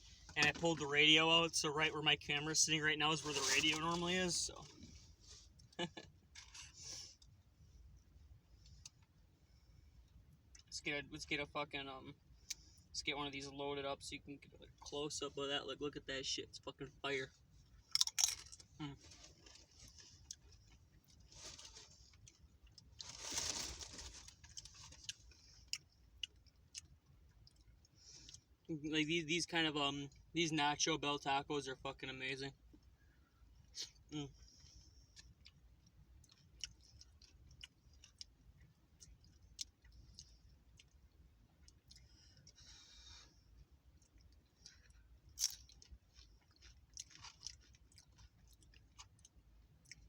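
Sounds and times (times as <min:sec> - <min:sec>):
chewing and crunching chips: 0:00.1 - 0:09.2, 0:12.2 - 0:28.8, 0:31.2 - 0:50.0.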